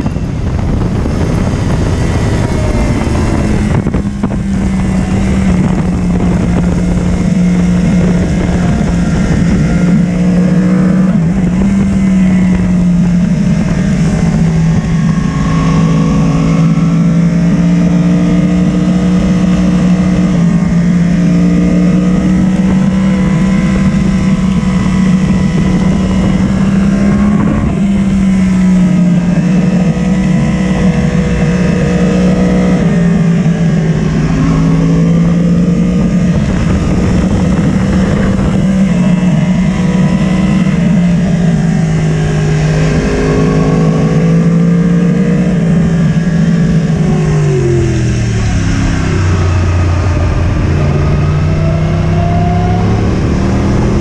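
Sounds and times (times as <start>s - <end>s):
motorcycle engine revving high: 0.0s - 54.0s
wind rushing over microphone: 0.0s - 54.0s.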